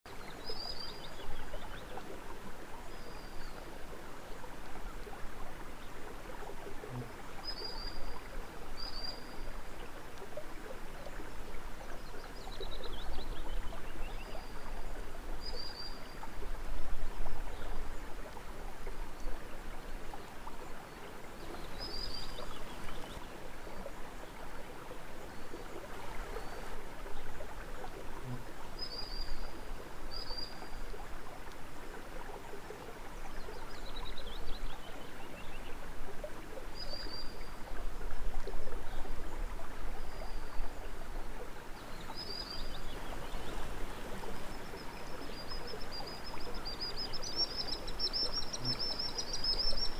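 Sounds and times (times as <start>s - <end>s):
running water: 0.1s - 49.9s.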